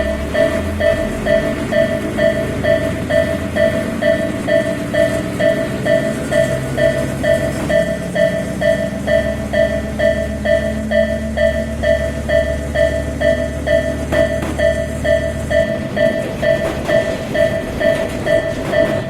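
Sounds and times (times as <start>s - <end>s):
level-crossing warning bell: 0.0s - 19.0s
passing train rumble: 0.0s - 19.0s.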